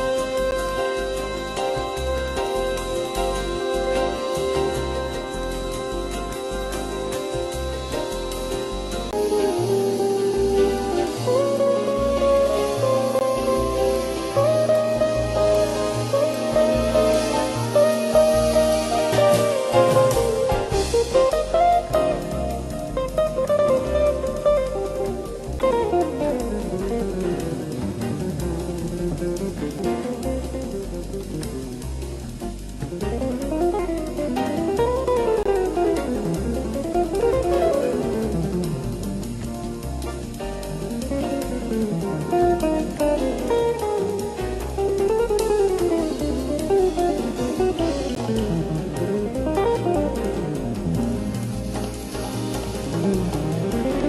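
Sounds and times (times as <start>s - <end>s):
guitar drums and bass music: 0.0s - 54.0s.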